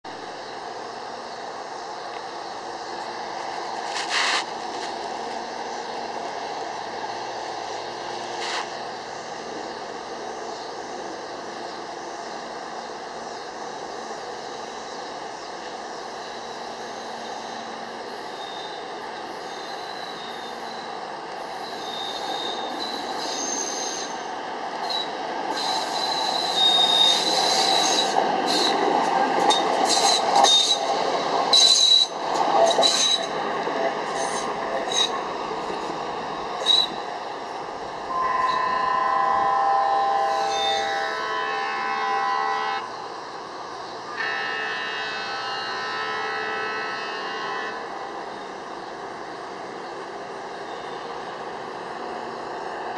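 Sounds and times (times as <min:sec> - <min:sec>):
rail wheels squealing: 0:03.8 - 0:43.2, 0:43.8 - 0:52.8.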